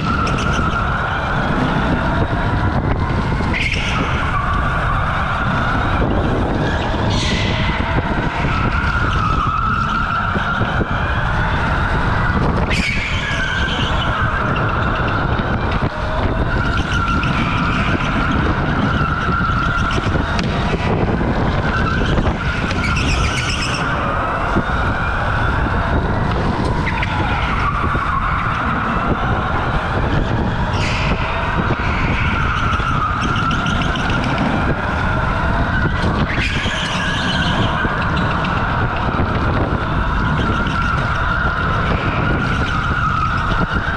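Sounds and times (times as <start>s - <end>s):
tyre squeals: 0.0s - 43.9s.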